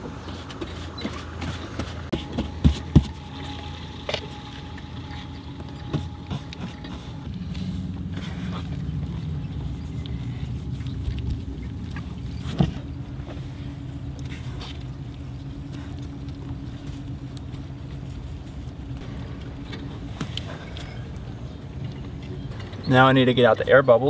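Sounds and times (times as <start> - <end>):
faint hum: 0.0 - 24.0
low engine rumble: 0.0 - 24.0.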